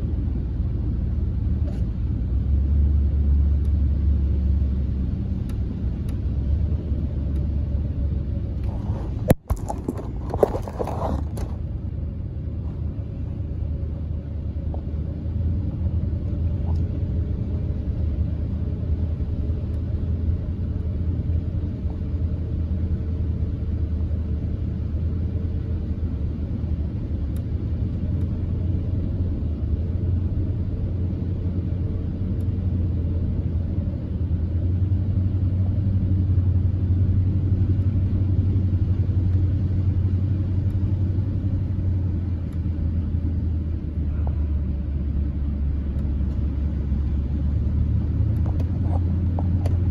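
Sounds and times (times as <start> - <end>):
car driving rumble from inside: 0.0 - 49.9.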